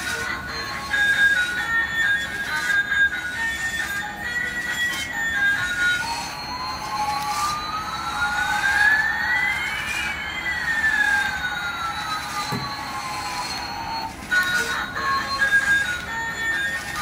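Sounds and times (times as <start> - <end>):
electronic jet engine tones: 0.0 - 17.0.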